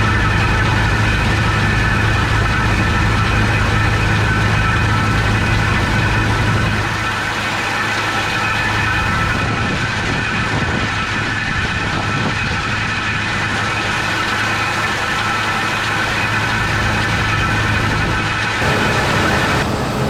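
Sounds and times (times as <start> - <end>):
combine harvester engine hum: 0.0 - 20.0
high whining tones: 0.0 - 20.0.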